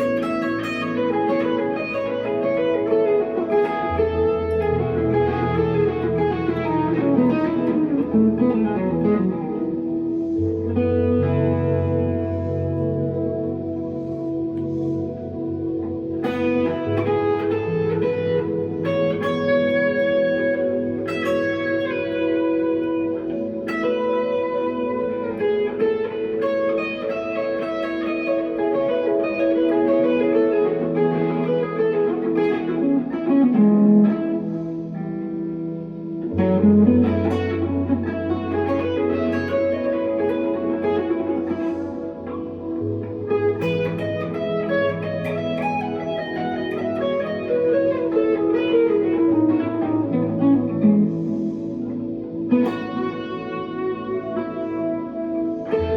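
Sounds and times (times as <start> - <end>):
electric guitar with delay and reverb: 0.0 - 55.9.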